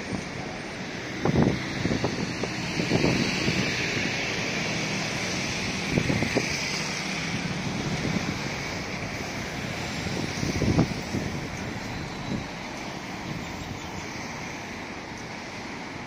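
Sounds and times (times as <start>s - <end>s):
cars driving past: 0.0s - 16.0s
wind buffeting microphone: 0.0s - 16.0s.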